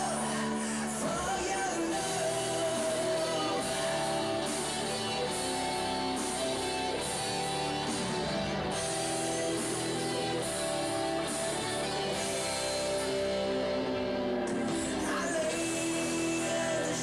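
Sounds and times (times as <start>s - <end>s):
drums: 0.0s - 17.0s
electric guitar chords: 0.0s - 17.0s.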